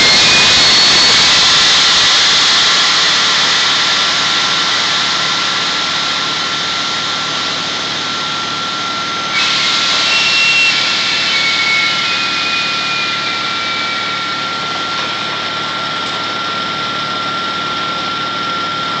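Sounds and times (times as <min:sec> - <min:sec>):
constant high whine: 0:00.0 - 0:19.0
drilling rig compressed air blasting: 0:00.0 - 0:19.0.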